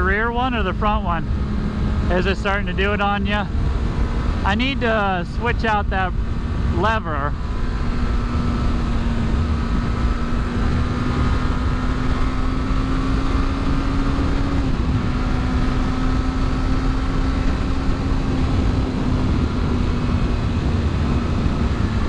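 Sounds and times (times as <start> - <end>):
motorcycle engine cruising: 0.0 - 22.0
road noise: 0.0 - 22.0
wind noise on microphone: 2.7 - 12.8, 13.5 - 22.0.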